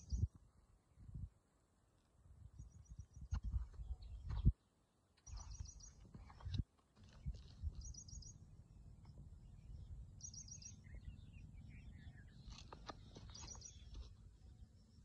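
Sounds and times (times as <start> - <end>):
small birds chirping: 0.0 - 0.4, 2.0 - 15.0.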